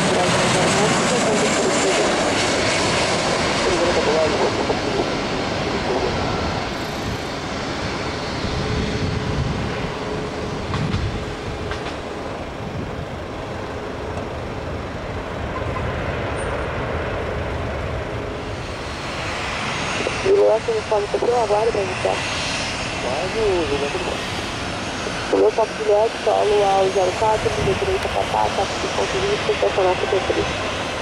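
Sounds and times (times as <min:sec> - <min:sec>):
airliner landing rumble: 0:00.0 - 0:31.0.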